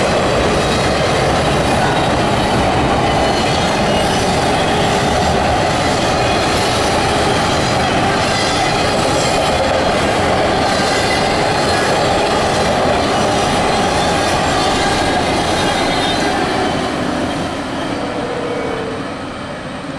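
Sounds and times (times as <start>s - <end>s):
freight train wheels rumbling on rail: 0.0s - 19.9s.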